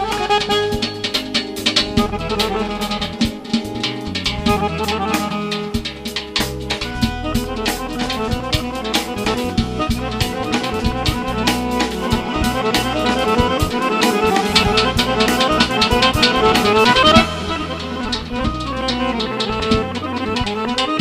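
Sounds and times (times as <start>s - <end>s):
button accordion melody: 0.0s - 21.0s
hand drum beating: 0.0s - 21.0s
synthesizer keyboard: 0.0s - 21.0s.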